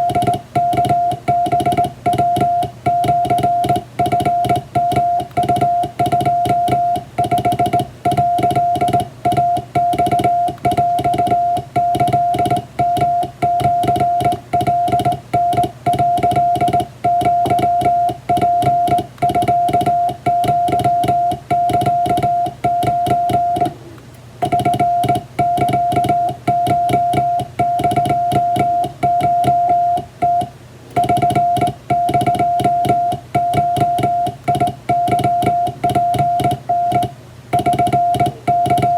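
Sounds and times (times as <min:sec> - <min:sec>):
morse code beeps: 0:00.0 - 0:23.8, 0:24.4 - 0:38.9
low quiet hum: 0:00.0 - 0:38.9.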